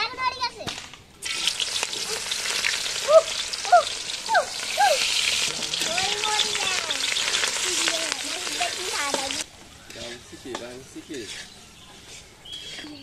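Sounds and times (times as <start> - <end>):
onions sizzling in hot oil: 1.2 - 12.8.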